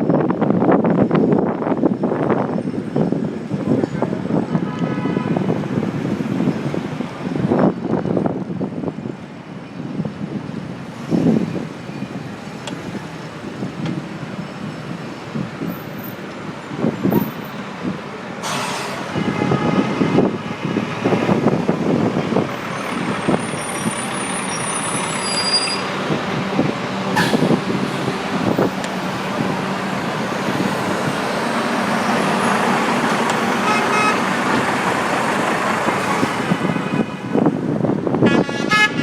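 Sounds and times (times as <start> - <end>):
traffic: 0.0 - 39.0.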